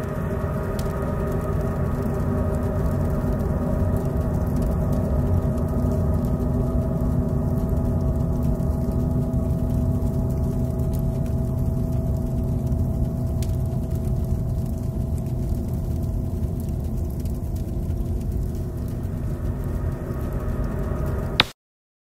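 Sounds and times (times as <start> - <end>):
low rumbling drone: 0.0 - 21.4.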